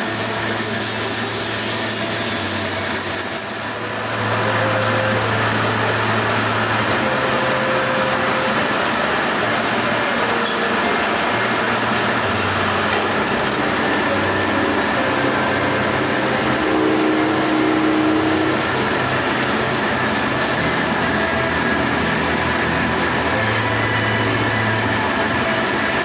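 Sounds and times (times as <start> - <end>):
lathe running: 0.0 - 26.0.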